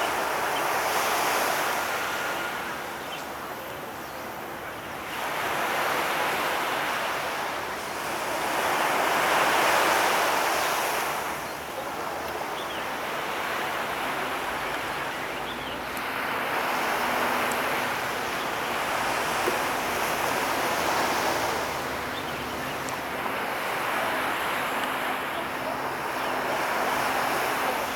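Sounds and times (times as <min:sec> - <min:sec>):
waves washing in: 0:00.0 - 0:27.9.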